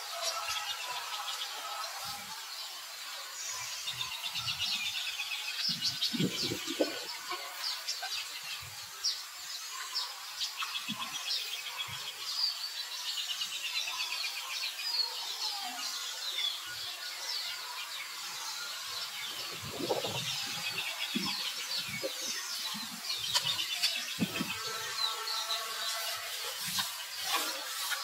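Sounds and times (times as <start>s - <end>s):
small birds chirping and trilling: 0.0s - 28.0s.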